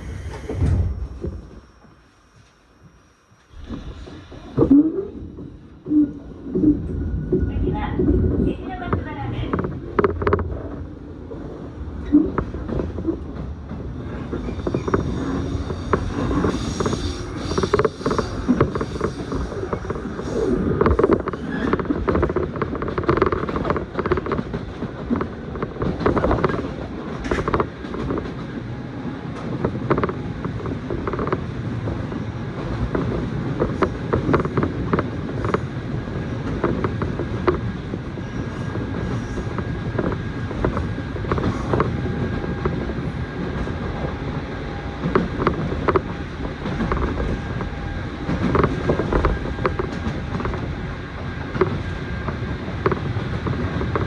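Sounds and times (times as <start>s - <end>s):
creaks and knocks of train car: 0.0s - 54.0s
train interior rumble: 0.0s - 54.0s.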